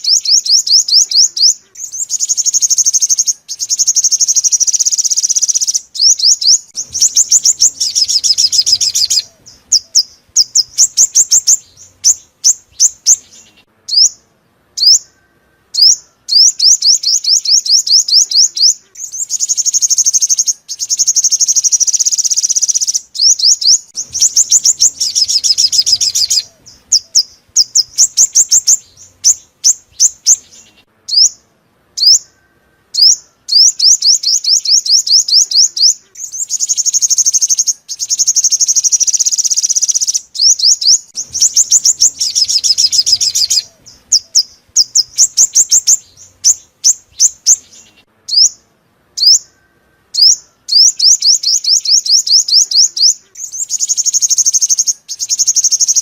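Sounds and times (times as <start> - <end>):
high thin bird song: 0.0 - 56.0.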